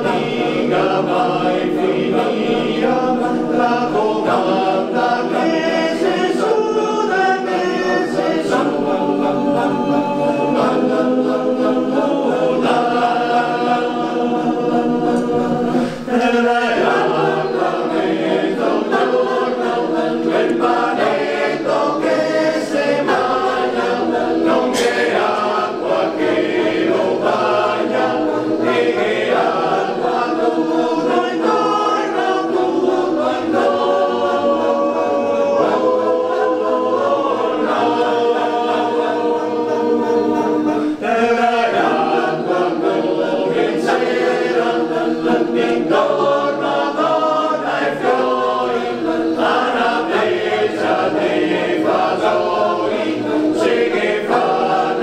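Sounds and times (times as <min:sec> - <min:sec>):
men's choir singing a cappella: 0:00.0 - 0:55.0.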